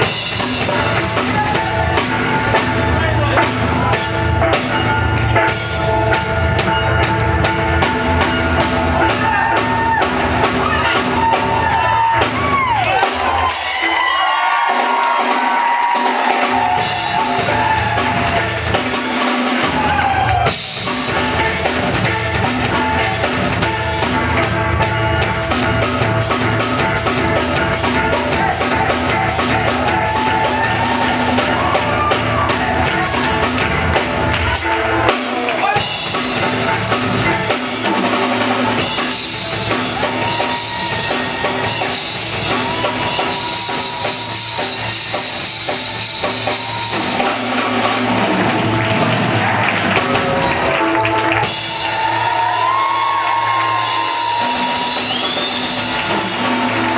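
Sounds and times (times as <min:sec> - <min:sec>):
steel pans playing melody: 0:00.0 - 0:12.2, 0:15.6 - 0:49.1
steady drum beat: 0:00.0 - 0:56.9.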